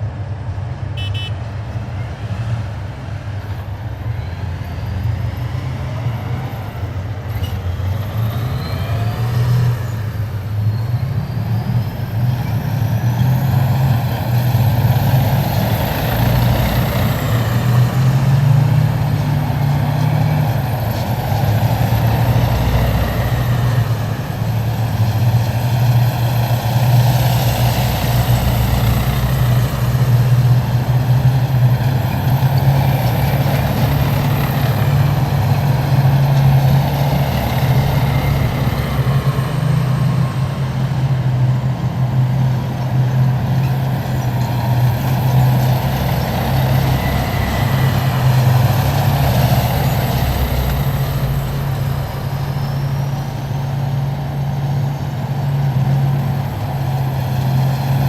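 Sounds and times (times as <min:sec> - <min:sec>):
heavy vehicle engines droning: 0:00.0 - 0:58.0.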